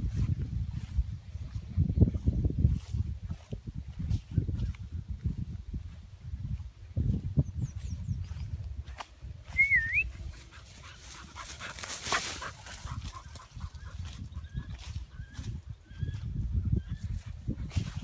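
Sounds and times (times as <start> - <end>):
footsteps through tall grass: 0.0 - 18.0.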